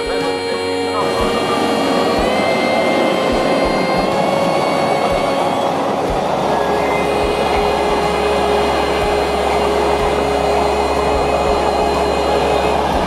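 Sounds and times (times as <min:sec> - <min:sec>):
steel wheels rumbling on rails: 0:00.0 - 0:13.0
thin steady whine: 0:00.0 - 0:13.0.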